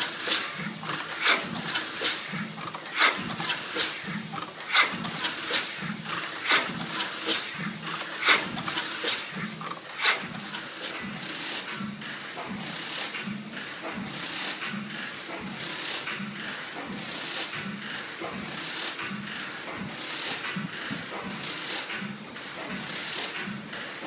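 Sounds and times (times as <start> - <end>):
steam air compressor running: 0.0 - 24.0.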